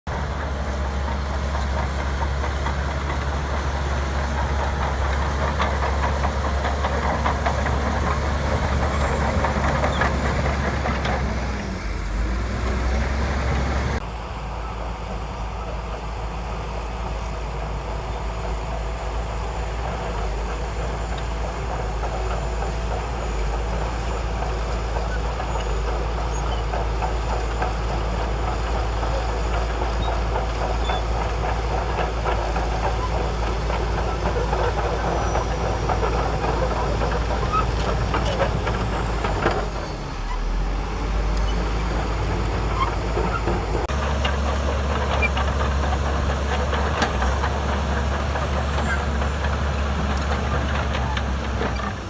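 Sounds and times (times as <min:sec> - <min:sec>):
bulldozer diesel engine running: 0:00.1 - 0:52.0.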